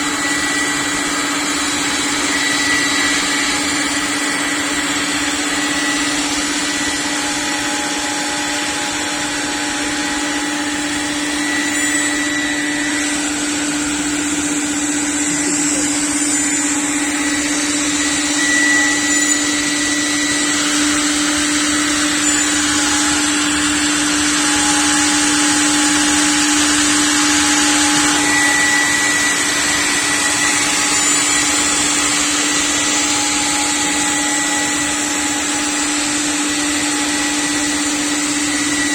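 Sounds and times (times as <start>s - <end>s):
cnc router whining: 0.0s - 38.9s.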